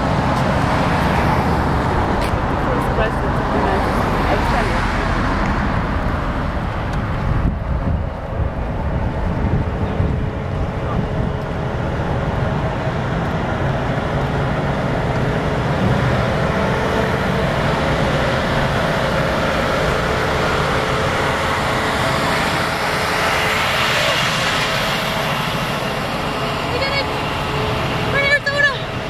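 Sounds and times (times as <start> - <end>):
car driving by: 0.0 - 29.0
large truck approaching: 0.0 - 29.0.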